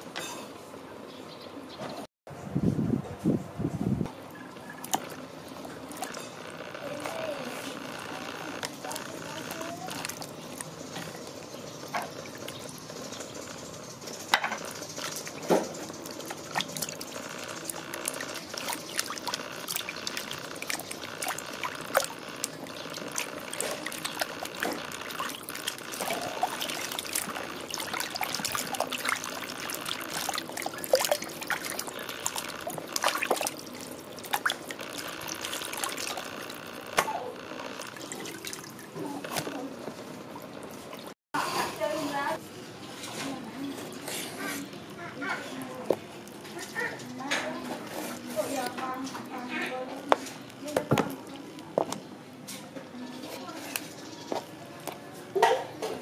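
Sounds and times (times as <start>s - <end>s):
water sloshing in plastic basin: 4.5s - 56.0s.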